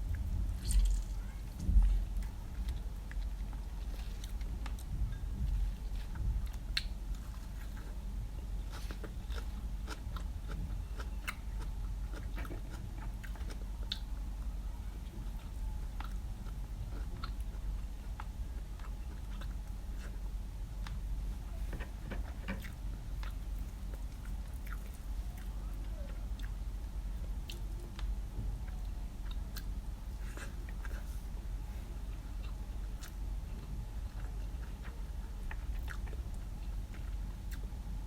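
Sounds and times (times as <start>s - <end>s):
person chewing food: 0.0s - 1.3s, 2.2s - 21.1s, 21.7s - 26.7s, 27.4s - 37.8s
low hum: 0.0s - 38.0s.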